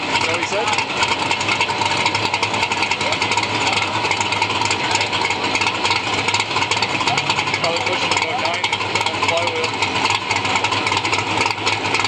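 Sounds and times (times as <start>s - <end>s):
hot rod engine running: 0.0s - 12.0s.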